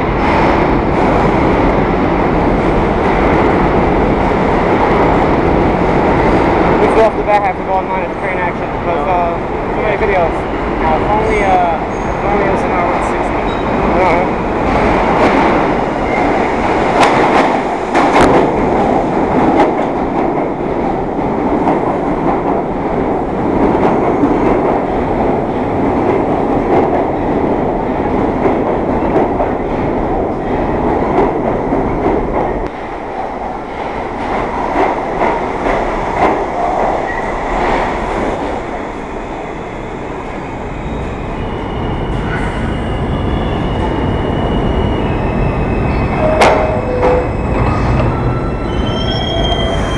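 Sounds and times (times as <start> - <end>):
subway train rumbling: 0.0 - 49.9.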